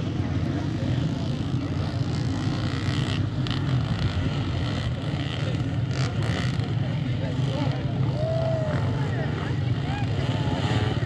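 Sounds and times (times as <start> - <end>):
dirt bike engines droning: 0.0 - 11.0.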